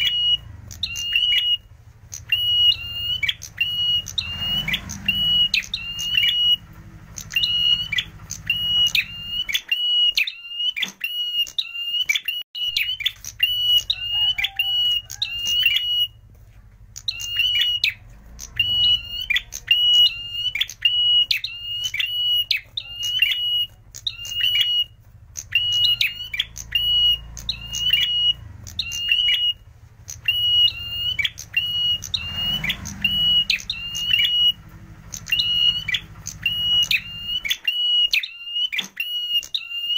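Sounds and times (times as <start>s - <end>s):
bird calling high piercing notes: 0.0s - 39.9s.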